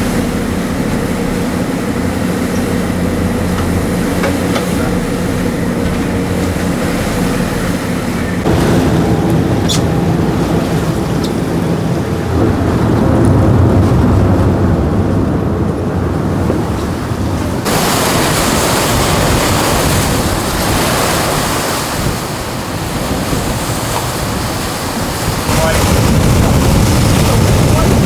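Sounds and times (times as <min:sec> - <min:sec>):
rushing sea water: 0:00.0 - 0:28.0
wind buffeting microphone: 0:00.0 - 0:28.0.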